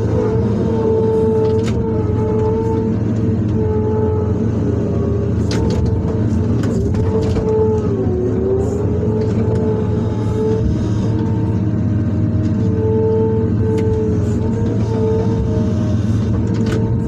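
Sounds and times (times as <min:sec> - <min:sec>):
diesel engine under load: 0:00.0 - 0:17.0
hydraulic whine: 0:00.0 - 0:17.0.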